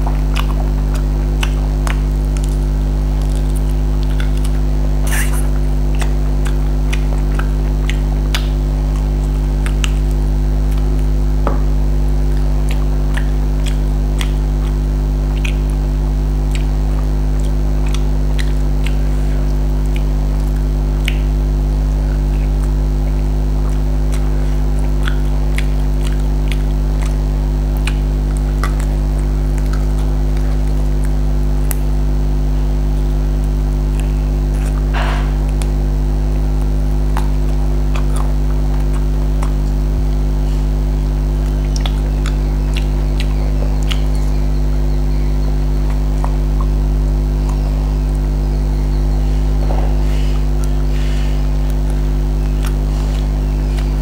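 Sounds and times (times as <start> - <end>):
low electrical hum: 0.0 - 54.0
person chewing meat: 0.0 - 54.0.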